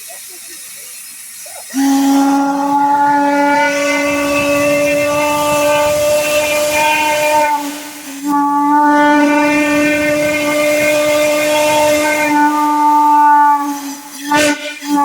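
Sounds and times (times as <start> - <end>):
train chime whistle: 1.7 - 15.0.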